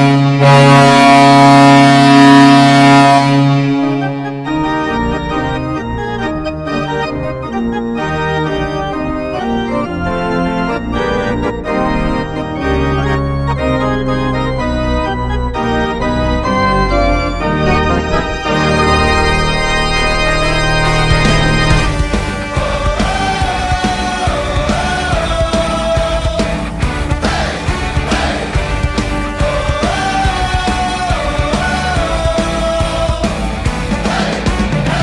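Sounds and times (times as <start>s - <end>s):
organ playing lively tune: 0.0s - 35.0s.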